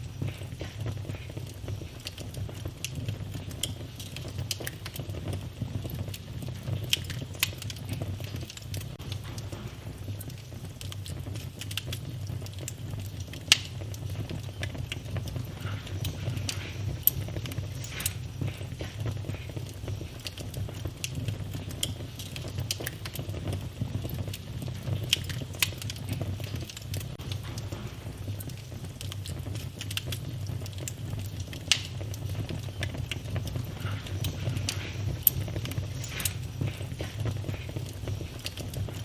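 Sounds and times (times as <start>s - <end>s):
low rumble of fire: 0.0s - 39.0s
wood fire crackling and popping: 0.0s - 39.0s.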